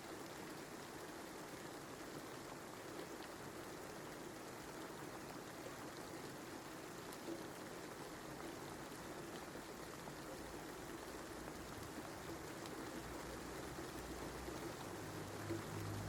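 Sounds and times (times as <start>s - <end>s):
faint raindrop ticks: 0.0s - 16.0s
steady rain hiss: 0.0s - 16.0s.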